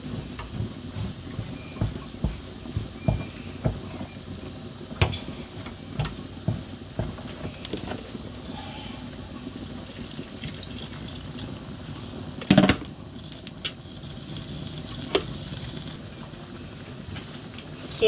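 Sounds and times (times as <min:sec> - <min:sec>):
pot of food boiling: 0:00.0 - 0:18.0.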